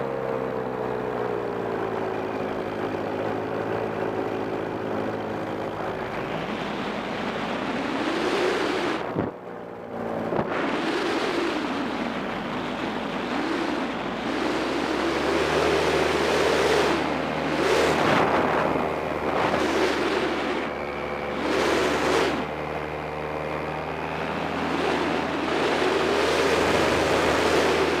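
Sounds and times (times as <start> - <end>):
paramotor engine and propeller: 0.0 - 28.0
wind rushing over microphone: 1.4 - 28.0.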